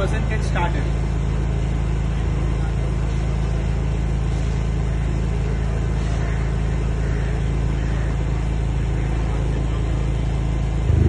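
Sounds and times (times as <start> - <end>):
generator running: 0.0 - 11.0.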